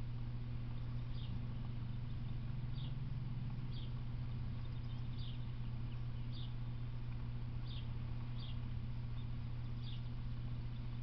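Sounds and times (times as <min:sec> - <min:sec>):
steady low hum: 0:00.0 - 0:11.0
bird chirping: 0:00.6 - 0:11.0.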